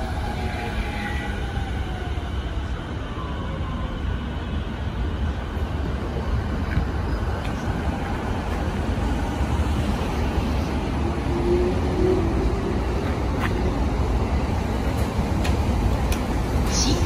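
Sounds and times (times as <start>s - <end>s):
electric train rumble and hiss: 0.0s - 17.0s.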